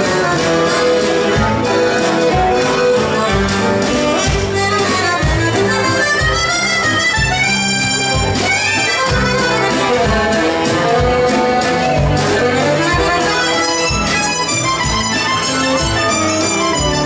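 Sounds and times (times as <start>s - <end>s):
accordion melody: 0.0s - 17.0s
live band with drum beat: 0.0s - 17.0s.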